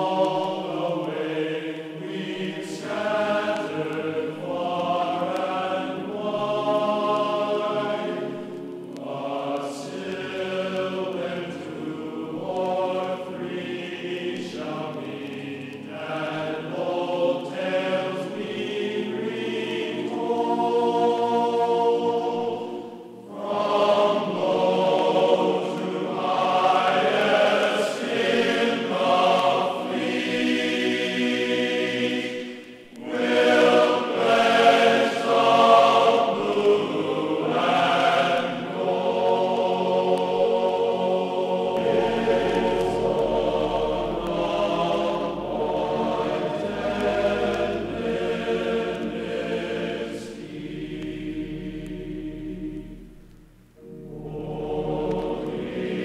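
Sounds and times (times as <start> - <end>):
choir singing slow chords: 0.0 - 56.0.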